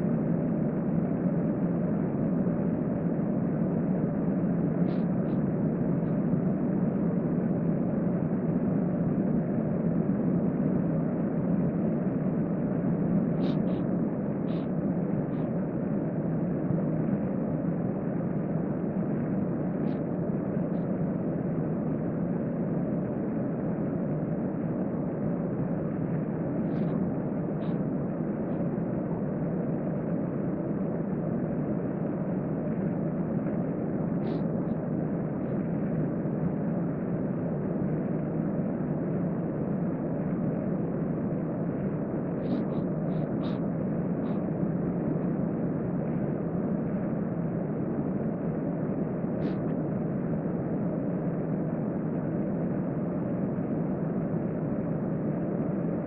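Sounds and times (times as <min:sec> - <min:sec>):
air conditioner hum: 0:00.0 - 0:56.0.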